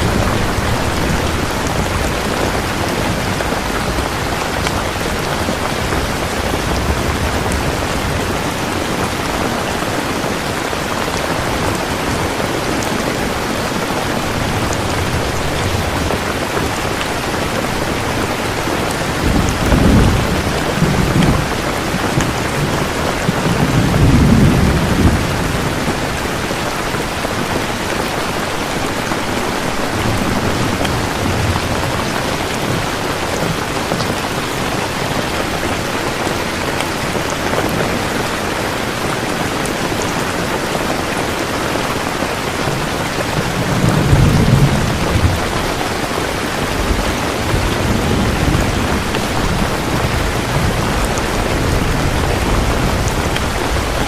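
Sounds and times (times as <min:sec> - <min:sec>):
thunder rumbling: 0:00.0 - 0:40.6, 0:42.0 - 0:54.0
heavy rain hissing: 0:00.0 - 0:54.0.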